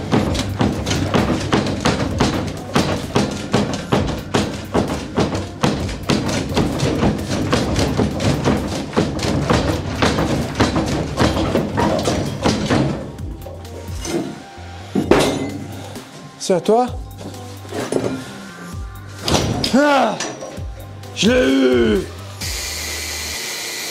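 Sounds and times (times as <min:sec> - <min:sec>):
music with percussive beat: 0:00.0 - 0:16.2, 0:16.9 - 0:22.6.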